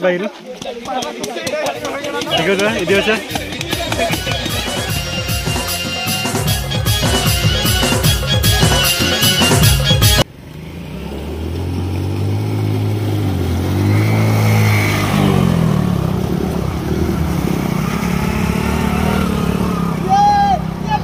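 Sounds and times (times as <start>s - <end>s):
scooter engine running: 0.6s - 21.0s.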